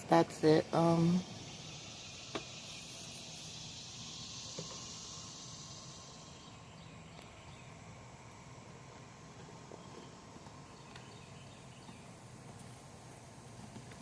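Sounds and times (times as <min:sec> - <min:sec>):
high-pitched insect drone: 0:00.0 - 0:11.5.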